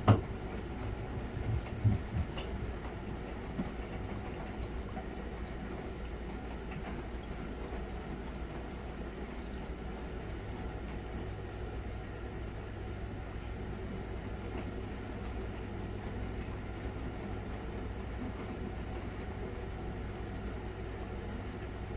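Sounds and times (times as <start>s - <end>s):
washing machine humming: 0.0s - 21.9s.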